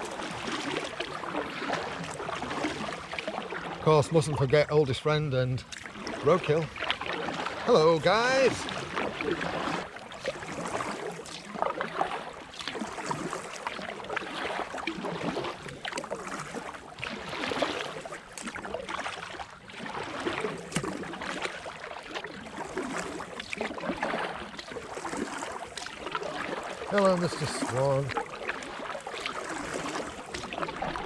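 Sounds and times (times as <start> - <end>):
kayak paddle splashing in river: 0.0 - 31.0.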